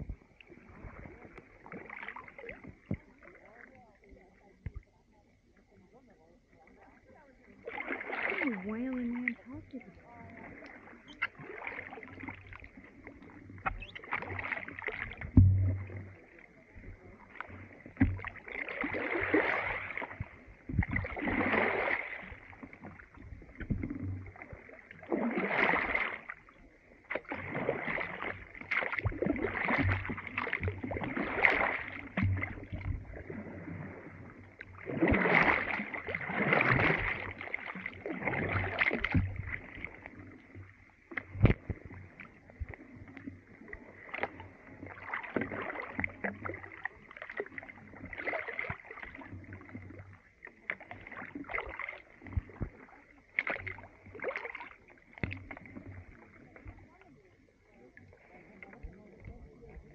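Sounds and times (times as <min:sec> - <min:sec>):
paddles splashing in slushy water: 0:00.0 - 0:59.9.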